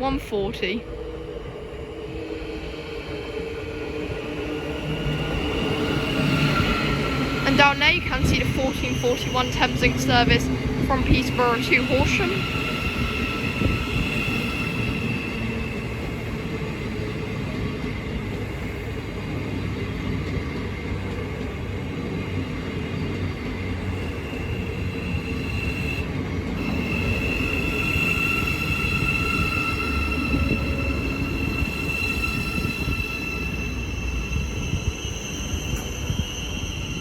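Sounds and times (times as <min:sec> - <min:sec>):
electric train rumble: 0:00.0 - 0:37.0.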